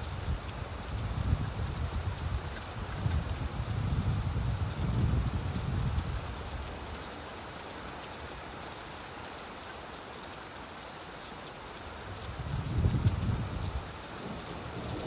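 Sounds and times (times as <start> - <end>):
steady rainfall hiss: 0.0 - 15.0.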